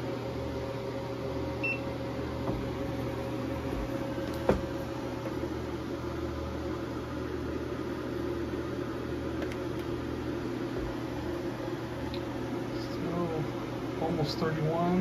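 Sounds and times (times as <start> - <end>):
electrical hum: 0.0 - 15.0
fan noise: 0.0 - 15.0.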